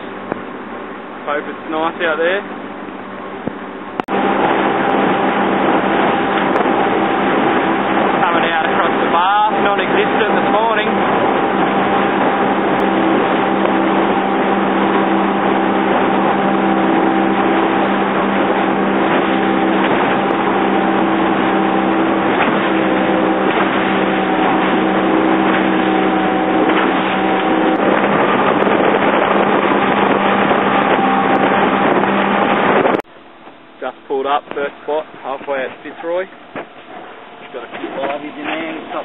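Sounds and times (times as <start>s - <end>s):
outboard motor running: 0.0s - 39.0s
rushing water: 0.0s - 39.0s
wind: 0.0s - 39.0s.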